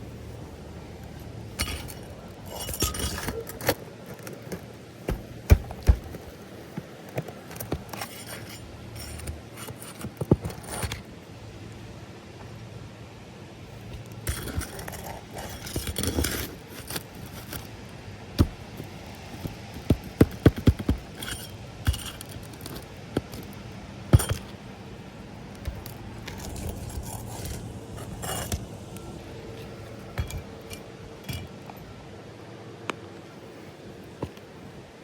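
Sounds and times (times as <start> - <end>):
scraping on shingles: 1.0 - 11.2, 13.8 - 31.9.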